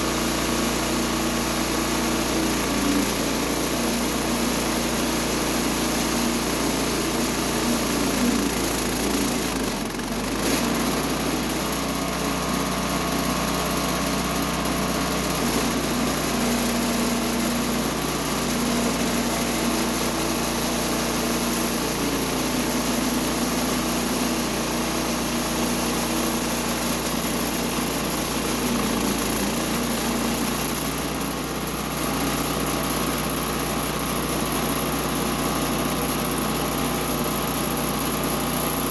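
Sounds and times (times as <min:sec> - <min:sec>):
band sawmill cutting log: 0:00.0 - 0:38.9.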